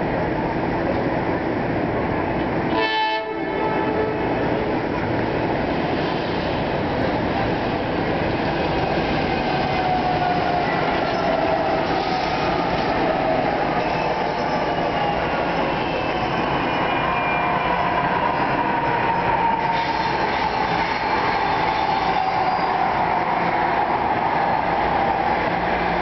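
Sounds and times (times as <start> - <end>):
train wheels rushing on rail: 0.0 - 26.0.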